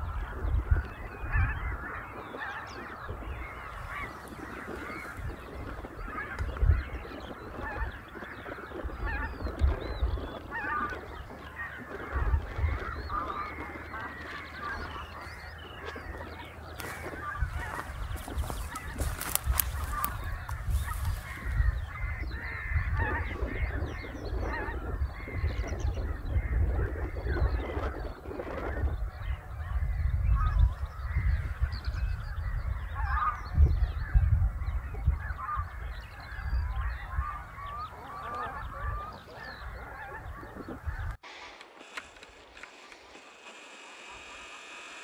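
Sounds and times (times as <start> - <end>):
geese honking: 0.0 - 45.0
waterfowl calls: 0.0 - 45.0.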